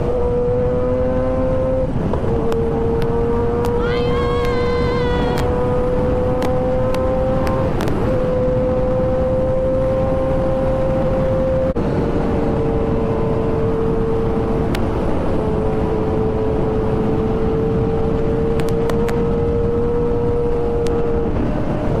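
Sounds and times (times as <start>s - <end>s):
heavy wind rush: 0.0s - 22.0s
motorcycle engine at high revs: 0.0s - 22.0s.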